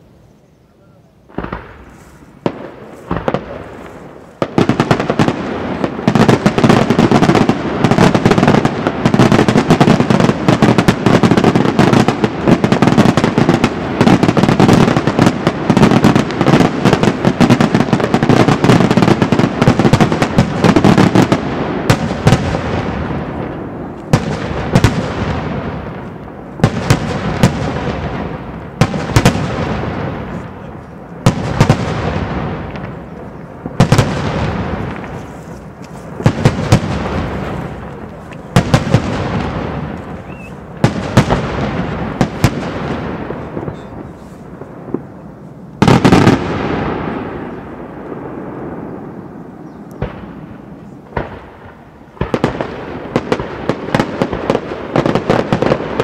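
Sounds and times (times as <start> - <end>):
fireworks bangs and crackling: 1.2 - 56.0.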